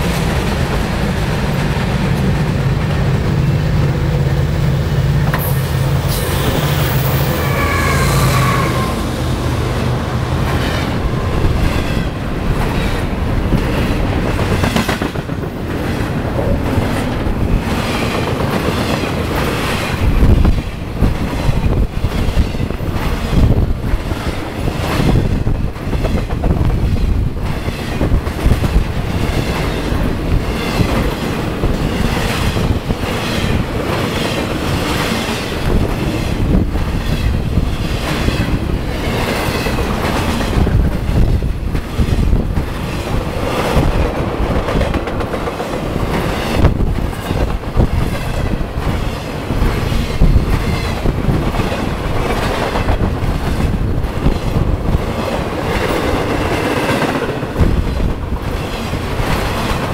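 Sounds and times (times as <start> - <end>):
freight train rumble: 0.0 - 59.9
wheels clattering on rails: 10.4 - 59.9.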